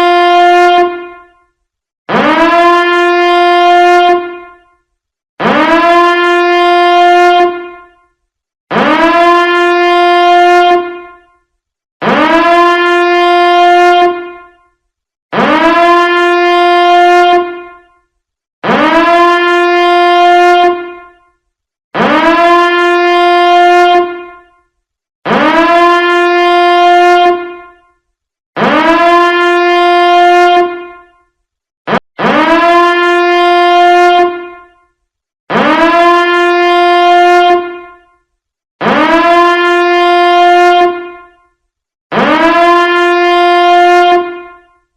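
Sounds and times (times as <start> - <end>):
horn-like alarm tone: 0.0 - 21.4, 22.0 - 28.0, 28.6 - 41.5, 42.1 - 44.9.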